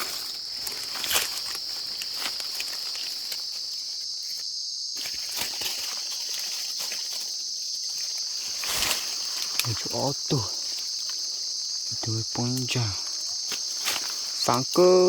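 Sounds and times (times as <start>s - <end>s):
faint ticks and rustles: 0.0s - 15.0s
insects droning: 0.0s - 15.0s.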